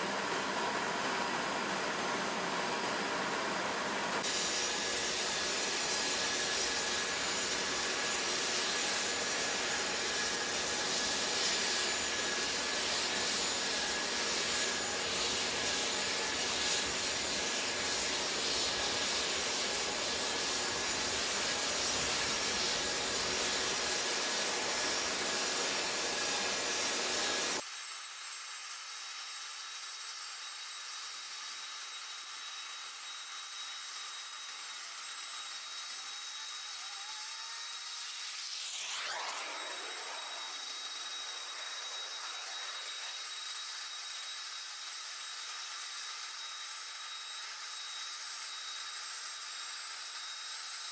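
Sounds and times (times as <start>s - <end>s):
jet turbine whine and rush: 0.0s - 27.6s, 33.2s - 48.6s.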